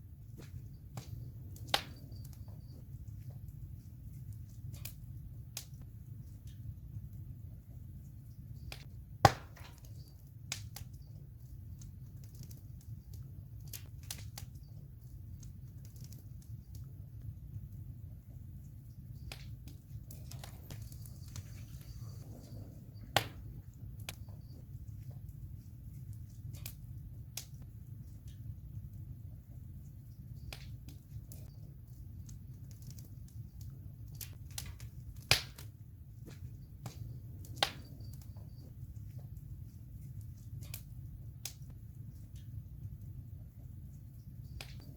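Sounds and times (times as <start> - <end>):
campfire crackling and popping: 0.1 - 44.9.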